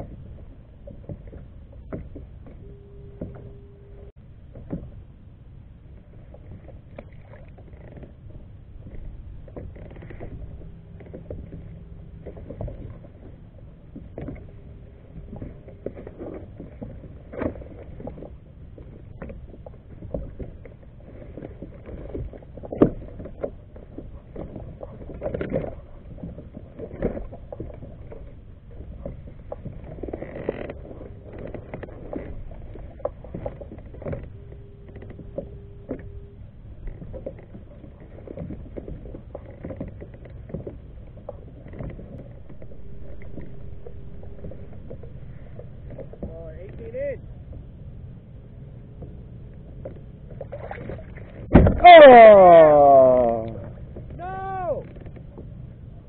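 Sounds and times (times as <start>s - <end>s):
water lapping against hull: 0.0s - 56.0s.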